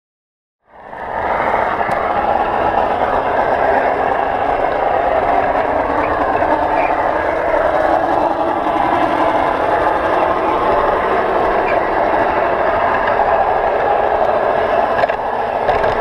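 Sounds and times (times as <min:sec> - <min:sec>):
model train whir and rattle: 0:00.8 - 0:16.0.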